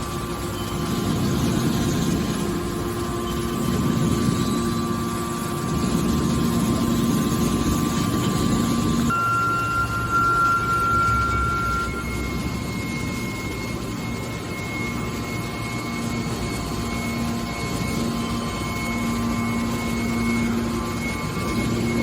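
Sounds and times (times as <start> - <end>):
high machine whines: 0.0 - 22.0
hydraulic baler hum: 0.0 - 22.0.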